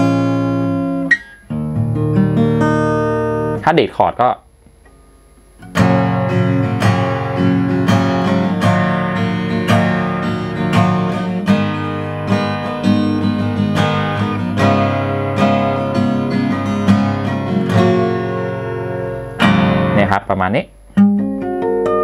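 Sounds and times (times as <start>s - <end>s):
acoustic guitar strummed chords: 0.0s - 22.0s.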